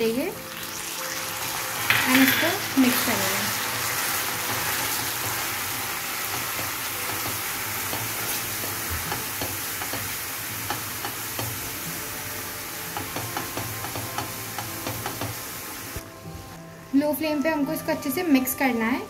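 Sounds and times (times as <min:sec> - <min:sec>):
caramel sizzling and bubbling: 0:00.0 - 0:16.1.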